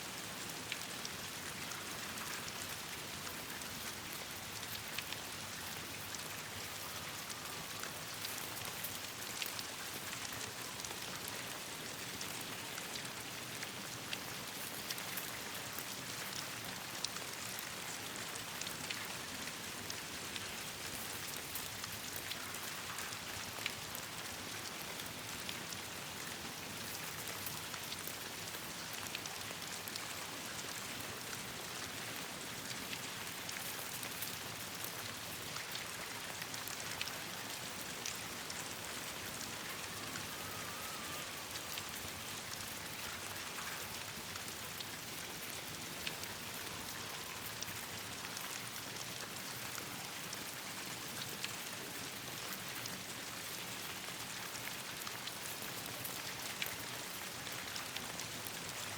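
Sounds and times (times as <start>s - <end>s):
rain on leaves: 0.0s - 58.9s.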